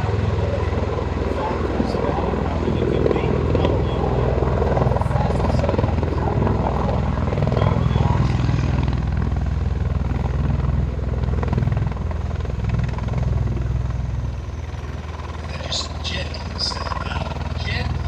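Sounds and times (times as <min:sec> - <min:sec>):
aircraft engine and propeller drone: 0:00.0 - 0:18.0.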